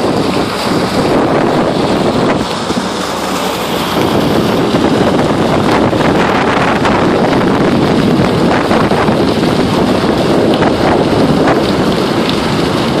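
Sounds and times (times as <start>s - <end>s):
heavy machinery diesel engines: 0.0s - 13.0s
wind buffeting microphone: 0.0s - 13.0s.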